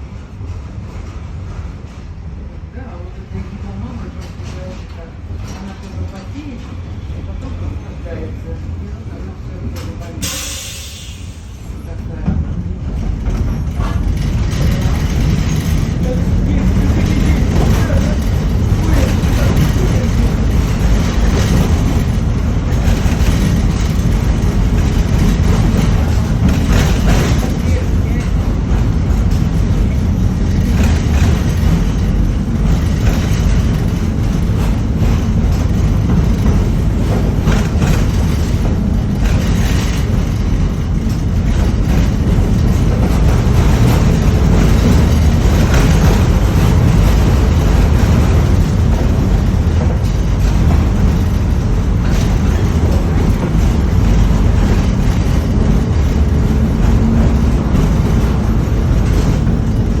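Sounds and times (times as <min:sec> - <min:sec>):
tram rumbling on rails: 0:00.0 - 1:00.0.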